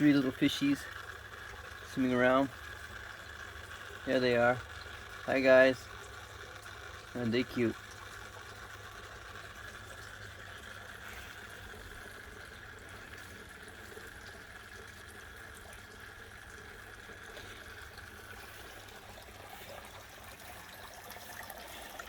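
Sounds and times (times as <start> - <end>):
steady low hum: 0.0 - 22.0
water trickling and splashing: 0.0 - 22.0.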